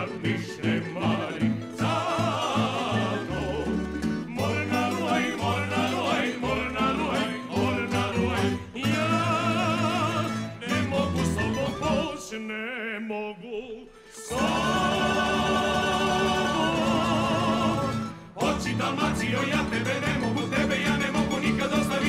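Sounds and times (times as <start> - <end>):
plucked string instruments: 0.0 - 12.4, 14.1 - 22.0
man singing with vibrato: 0.0 - 22.0.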